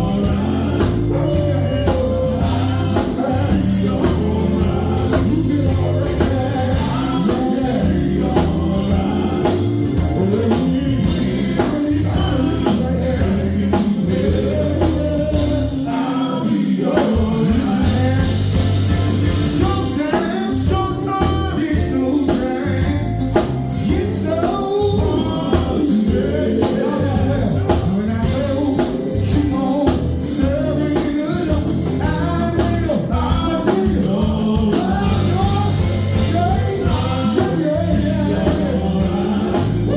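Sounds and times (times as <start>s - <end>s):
gospel group singing: 0.0s - 39.9s
instrumental backing with bass line: 0.0s - 39.9s.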